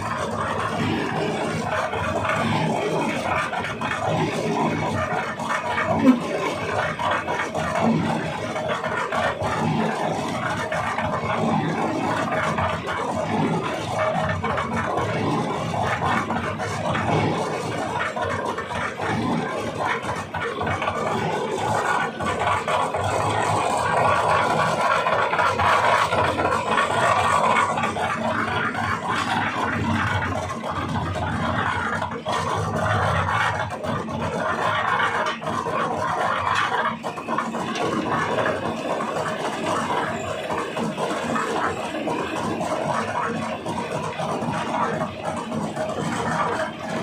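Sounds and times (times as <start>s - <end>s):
mixer drum churning: 0.0s - 47.0s.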